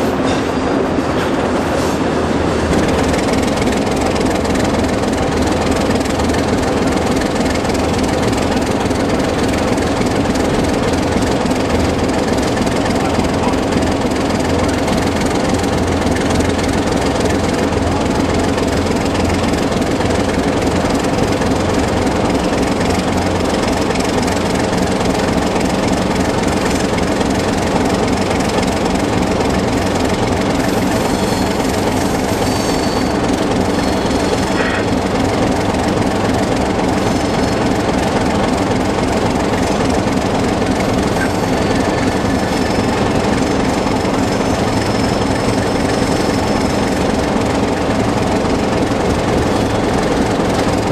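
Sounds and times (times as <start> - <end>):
diesel locomotive engine running: 0.0 - 50.9
wheels rumbling on rail: 0.0 - 50.9.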